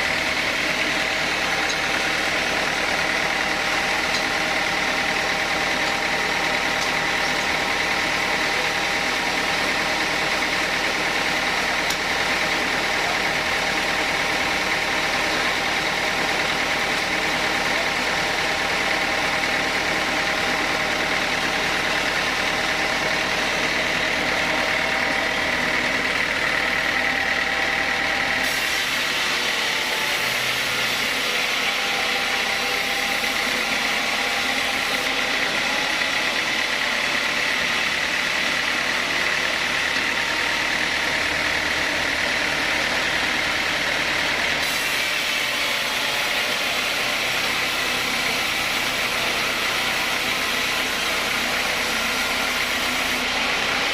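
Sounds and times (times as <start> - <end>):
sawmill saw cutting wood: 0.0 - 53.9.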